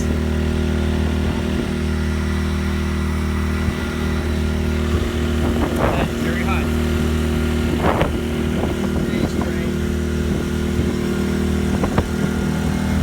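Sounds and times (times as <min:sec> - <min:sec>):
inverter generator running: 0:00.0 - 0:13.0.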